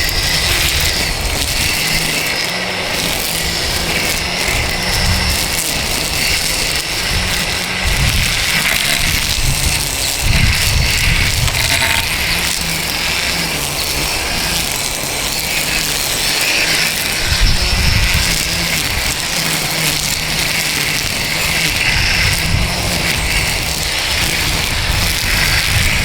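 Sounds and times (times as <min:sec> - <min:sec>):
lawn equipment motor hum: 0:00.0 - 0:26.0.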